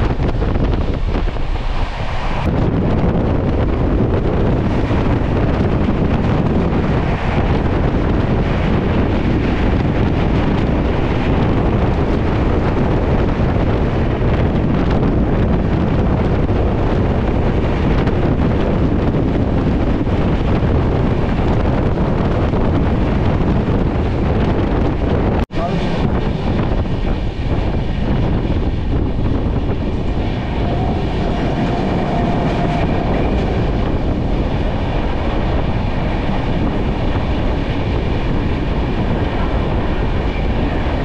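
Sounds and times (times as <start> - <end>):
train coach rumbling: 0.0 - 41.0
wind buffeting microphone: 0.0 - 41.0.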